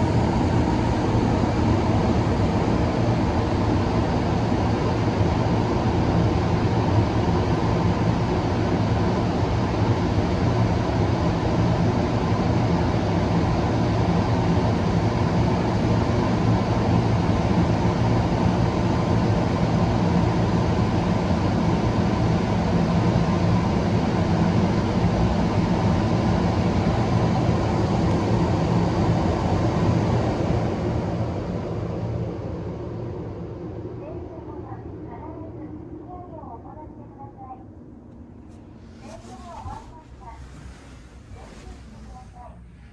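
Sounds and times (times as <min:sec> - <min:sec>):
car wash machine rushing and humming: 0:00.0 - 0:32.2, 0:38.5 - 0:42.9.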